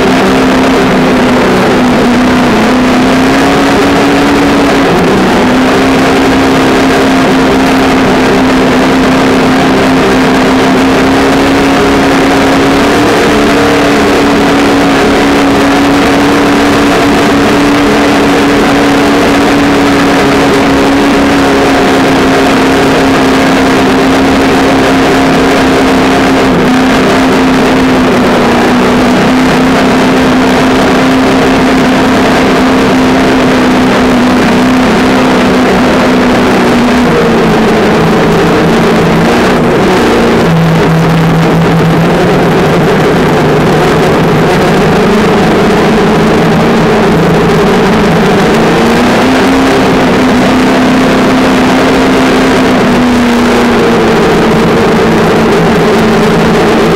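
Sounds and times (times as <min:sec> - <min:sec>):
rushing noise over grass: 0:00.0 - 0:56.9.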